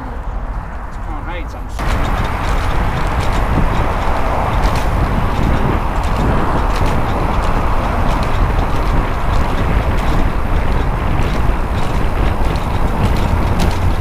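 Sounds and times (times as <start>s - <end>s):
road rumble: 0.0s - 14.0s
wind rushing over microphone: 0.0s - 14.0s.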